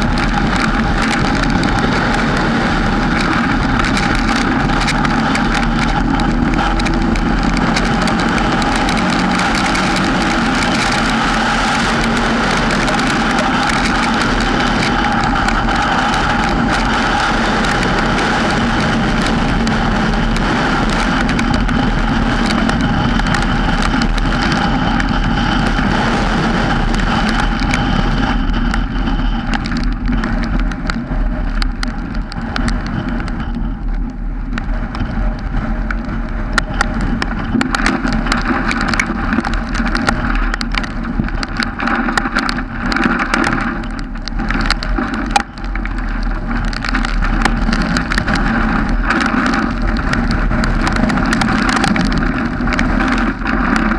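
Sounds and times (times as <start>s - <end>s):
car engine hum: 0.0s - 53.9s
rain ticking on camera: 0.0s - 53.9s
road noise: 0.0s - 53.9s.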